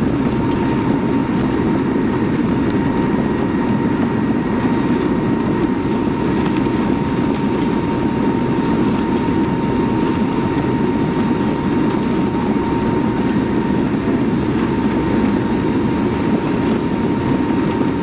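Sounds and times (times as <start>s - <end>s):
aircraft engines rushing drone: 0.0s - 18.0s.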